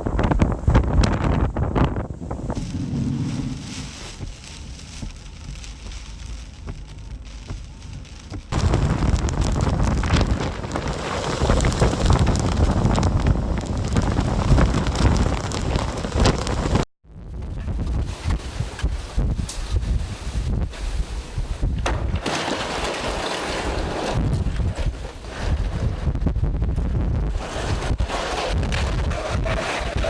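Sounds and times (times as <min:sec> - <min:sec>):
heavy rain and wind: 0:00.0 - 0:30.0.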